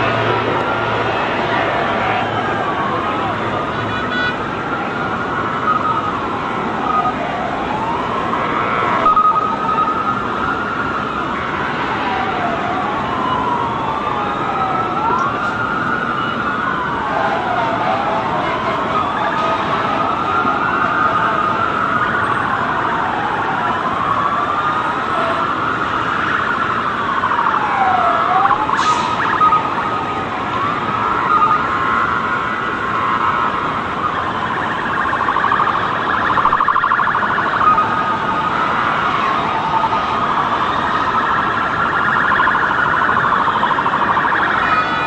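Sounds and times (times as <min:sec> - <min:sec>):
sirens wailing: 0:00.0 - 0:45.0
warbling siren: 0:00.0 - 0:45.0.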